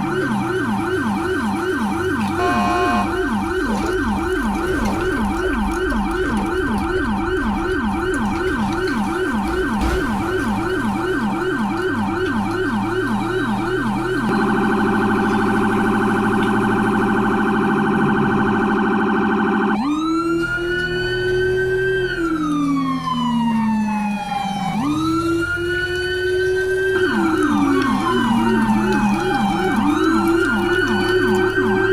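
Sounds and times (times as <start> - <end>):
electronic siren: 0.0 - 31.9.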